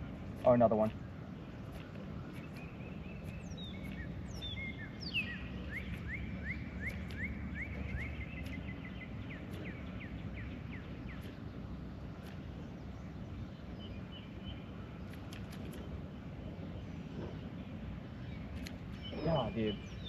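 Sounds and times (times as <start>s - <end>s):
low outdoor rumble: 0.0s - 20.0s
songbird chirping: 0.0s - 20.0s.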